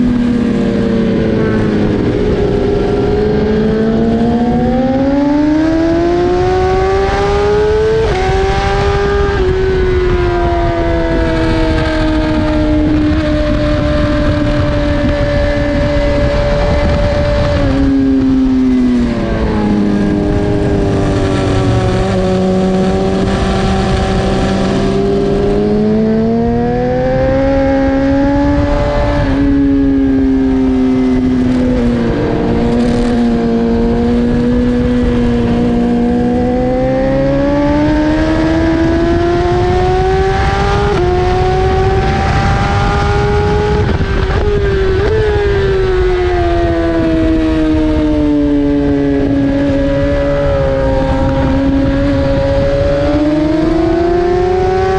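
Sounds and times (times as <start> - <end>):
motorcycle engine revving: 0.0 - 54.9
wind rush: 0.0 - 54.9.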